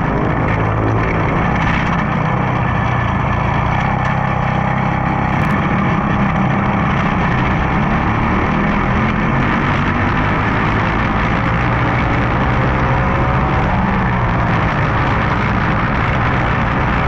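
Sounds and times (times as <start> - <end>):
kart engine running: 0.0 - 17.0.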